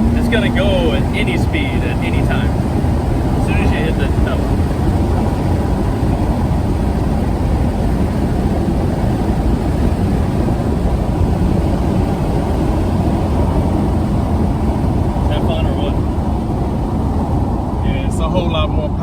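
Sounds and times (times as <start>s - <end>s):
car interior road and engine noise: 0.0s - 19.0s.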